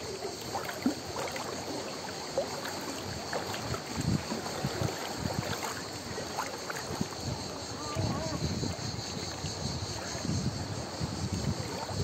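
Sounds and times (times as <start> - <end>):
waves lapping against rocks: 0.0 - 12.0.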